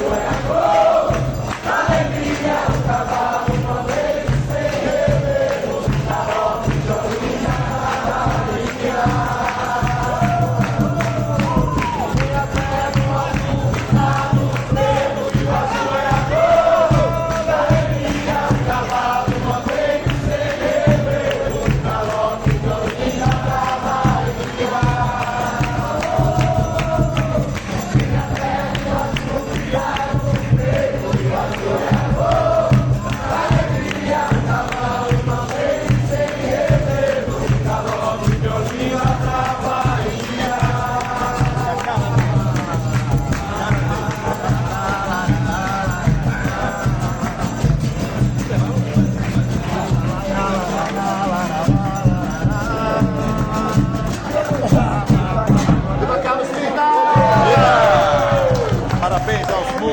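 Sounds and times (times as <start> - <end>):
group of people singing: 0.0 - 59.9.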